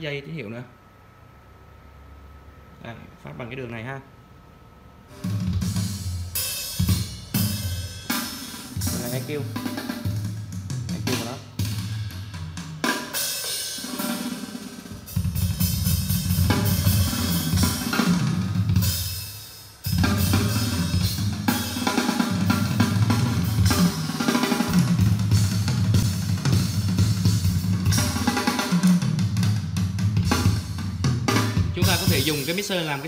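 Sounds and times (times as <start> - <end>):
music with drums and heavy bass: 5.1 - 33.0.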